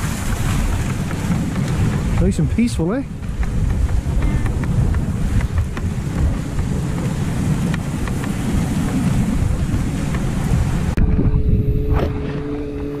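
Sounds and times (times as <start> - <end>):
sled runners rumbling on snow: 0.0 - 13.0
wind buffeting microphone: 0.0 - 13.0
light ticks from sled: 0.1 - 10.6.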